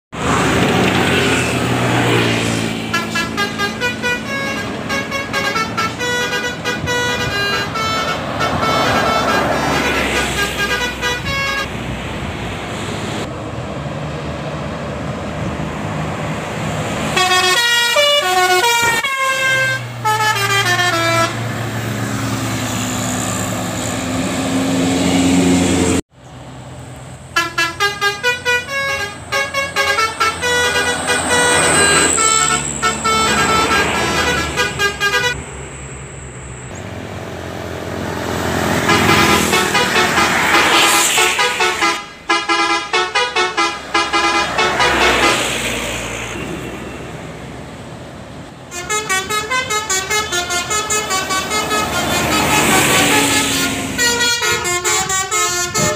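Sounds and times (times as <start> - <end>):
road noise: 0.0 - 55.9
bus passing close: 0.1 - 55.9
diesel engine: 0.1 - 55.9
multi-tone bus horns: 0.2 - 11.8, 17.0 - 26.0, 27.3 - 35.5, 37.9 - 47.3, 48.6 - 55.9.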